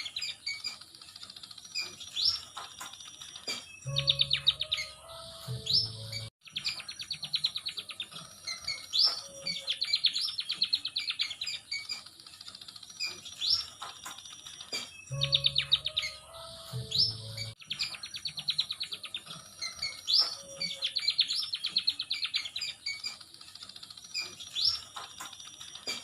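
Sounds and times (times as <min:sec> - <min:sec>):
bird song trills and whistles: 0:00.0 - 0:00.9, 0:01.6 - 0:12.1, 0:12.8 - 0:23.3, 0:23.9 - 0:26.0.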